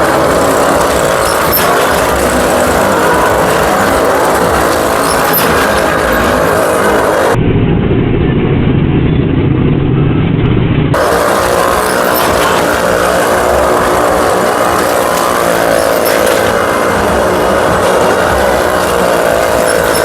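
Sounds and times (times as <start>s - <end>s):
motorcycle and car engines: 0.0s - 20.0s.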